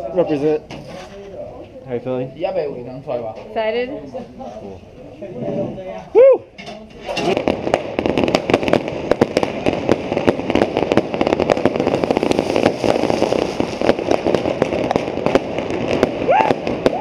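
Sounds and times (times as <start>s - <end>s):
fireworks cracking and popping: 0.0s - 1.8s, 4.5s - 17.0s.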